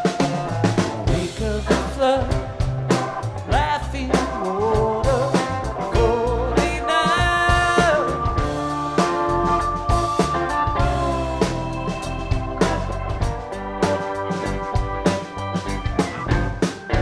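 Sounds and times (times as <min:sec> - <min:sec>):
melodic line bending notes: 0:00.0 - 0:17.0
rock band playing live: 0:00.0 - 0:17.0.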